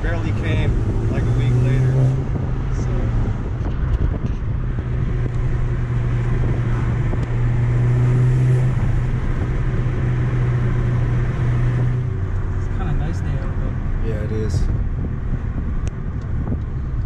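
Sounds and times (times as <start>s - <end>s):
car engine drone from cabin: 0.0s - 17.0s.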